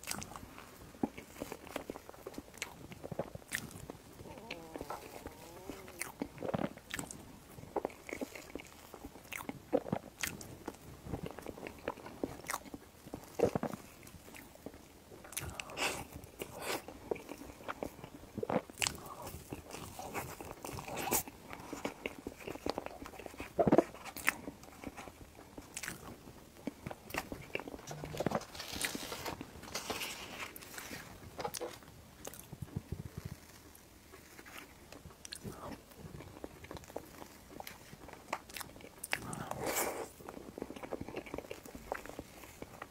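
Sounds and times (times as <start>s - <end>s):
chewing and mouth sounds: 0.0s - 42.9s.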